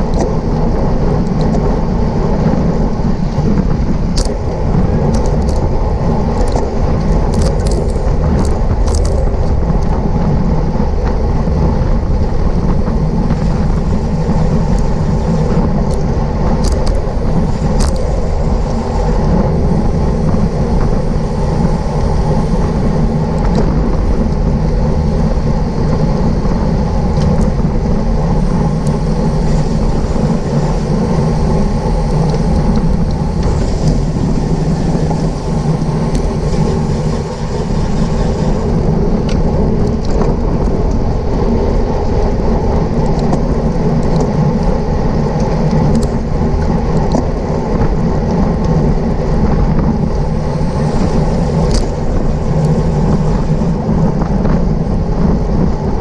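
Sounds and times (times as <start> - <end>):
road and tyre noise: 0.0 - 56.0
wind over microphone: 0.0 - 56.0.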